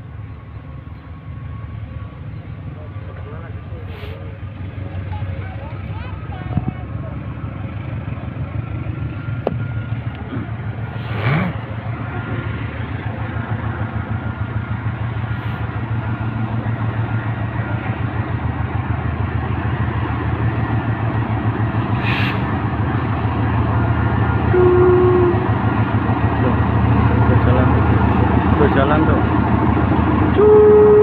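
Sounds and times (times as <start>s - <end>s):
freight train rumbling past: 0.0s - 31.0s.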